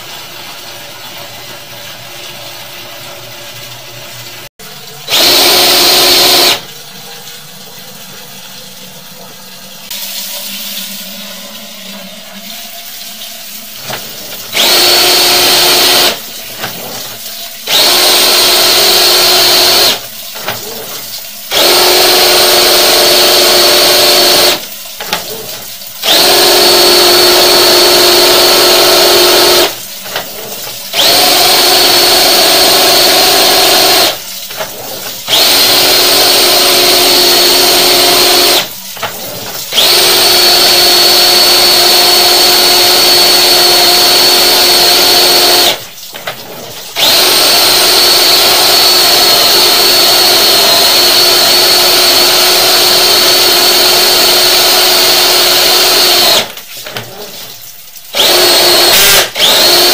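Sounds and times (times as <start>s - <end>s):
drain-cleaning machine motor running: 0.0s - 59.9s.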